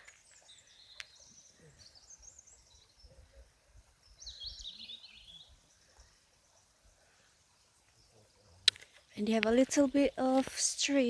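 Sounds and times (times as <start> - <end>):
small birds singing: 0.0 - 11.0.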